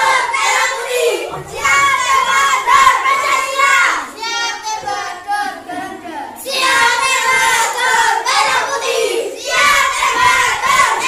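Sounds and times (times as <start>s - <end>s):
children chanting: 0.0s - 11.0s.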